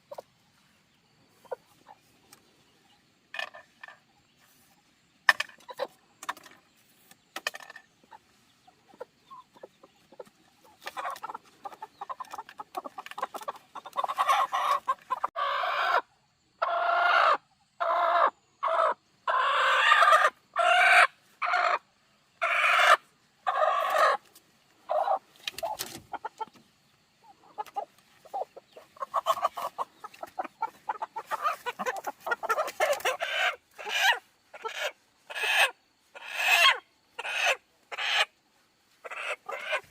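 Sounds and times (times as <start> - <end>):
chickens clucking and squawking: 0.0 - 39.9.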